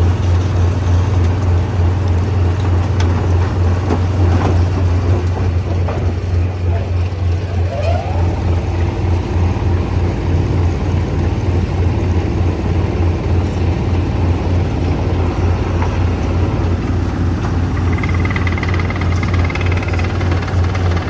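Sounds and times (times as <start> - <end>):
stone crusher machine running: 0.0 - 21.0.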